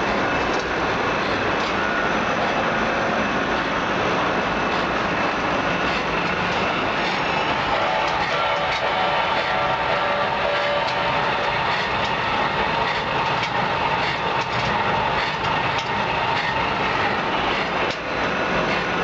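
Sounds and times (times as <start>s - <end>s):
machinery running: 0.0s - 19.0s.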